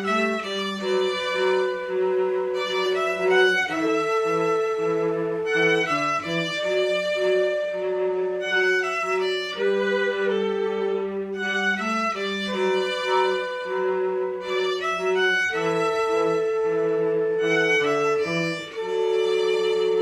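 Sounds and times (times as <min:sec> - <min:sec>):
cello long low notes: 0:00.0 - 0:20.0
violin melody: 0:00.0 - 0:20.0.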